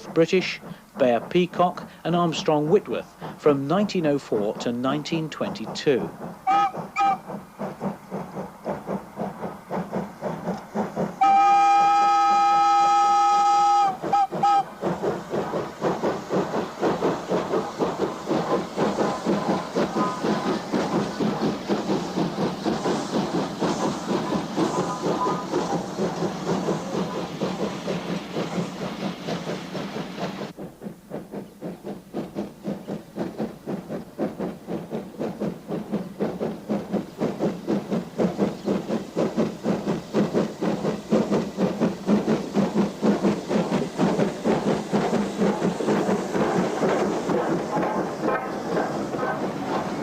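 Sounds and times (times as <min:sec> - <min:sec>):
steam hiss: 0:00.0 - 0:50.0
steam locomotive exhaust beats: 0:00.0 - 0:50.0.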